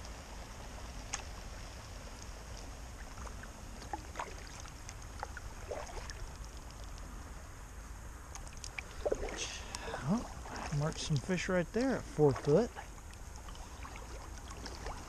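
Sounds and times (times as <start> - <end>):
steady low rumble: 0.0 - 15.0
paddle splashes and drips: 0.8 - 7.2, 8.3 - 15.0.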